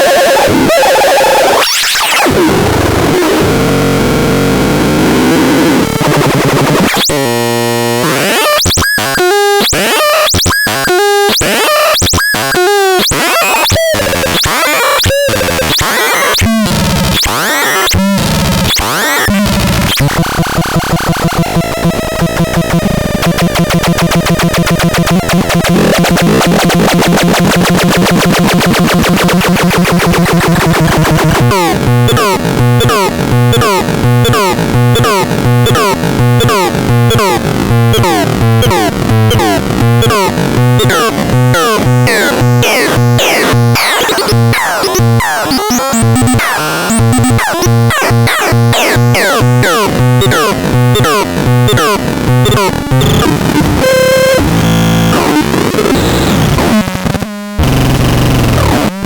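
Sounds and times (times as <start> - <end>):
buzzy synthesizer tones: 0.0 - 58.8.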